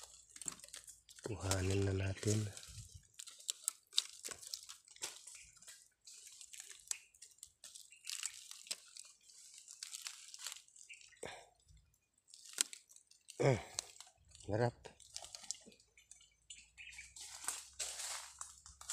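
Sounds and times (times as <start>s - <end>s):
dry twigs crackling and snapping: 0.0s - 18.9s.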